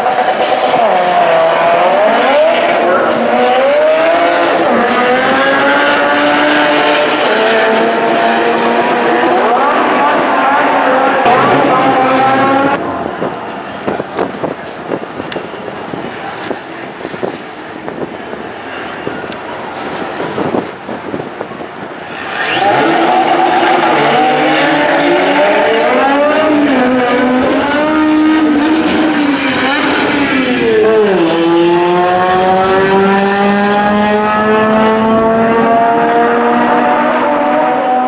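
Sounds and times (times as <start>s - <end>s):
drag car engines accelerating: 0.0s - 38.0s.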